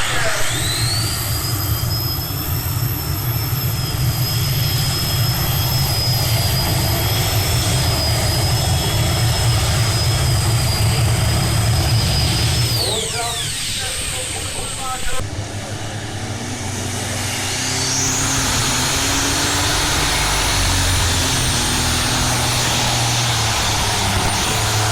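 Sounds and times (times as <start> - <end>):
high engine whine: 0.0 - 24.9
tractor engine running flat out: 0.0 - 24.9.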